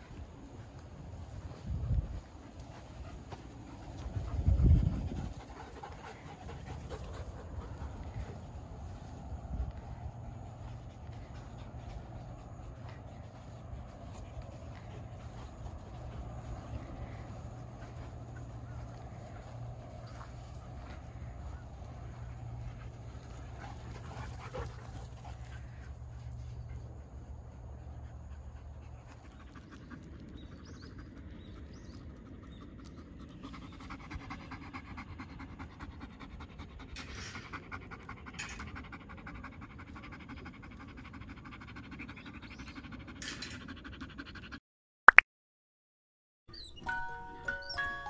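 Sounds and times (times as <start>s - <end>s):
dog panting: 1.2s - 44.6s.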